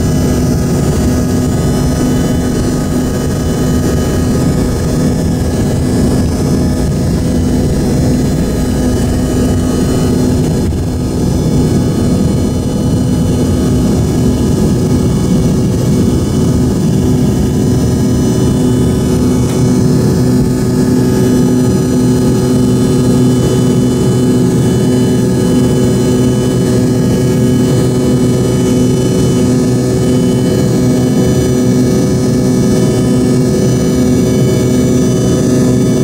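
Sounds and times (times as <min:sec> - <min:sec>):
jet engine roar: 0:00.0 - 0:36.0
jet engine whining tones: 0:00.0 - 0:36.0.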